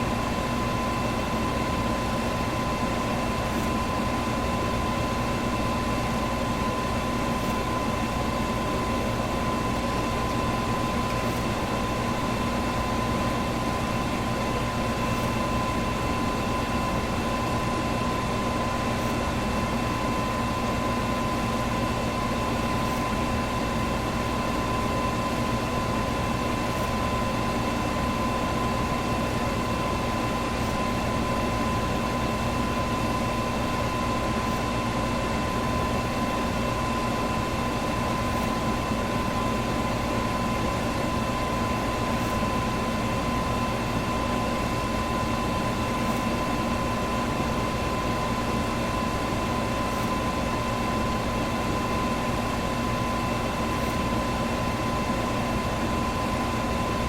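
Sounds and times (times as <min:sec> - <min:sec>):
fan motor hum: 0:00.0 - 0:57.0
thin steady whine: 0:00.0 - 0:57.0.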